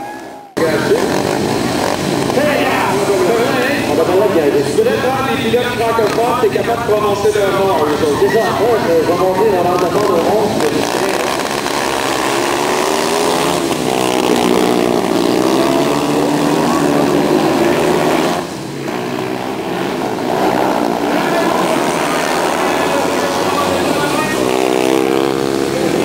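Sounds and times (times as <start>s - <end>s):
motorcycles racing at full throttle: 0.0s - 26.0s.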